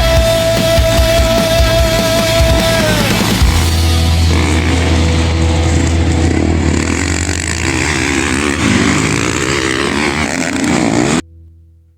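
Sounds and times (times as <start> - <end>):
dirt bike engines revving: 0.0 - 11.2.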